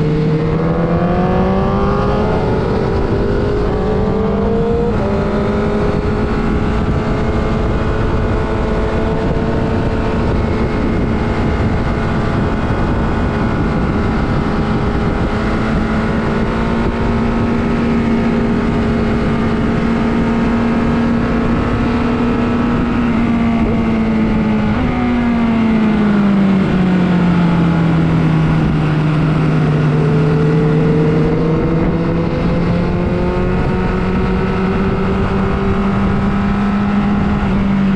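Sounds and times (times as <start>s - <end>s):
superbike engine at high revs: 0.0s - 37.9s.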